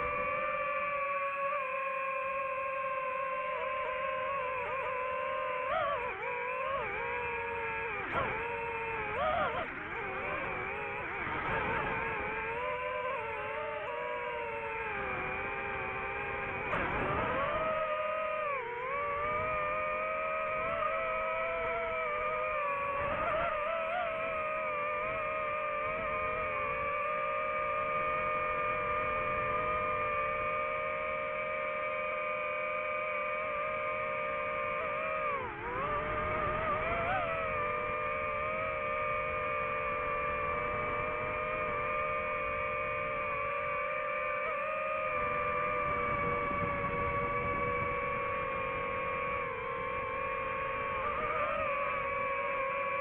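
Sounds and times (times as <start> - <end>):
drone motors and propellers whining: 0.0 - 53.0.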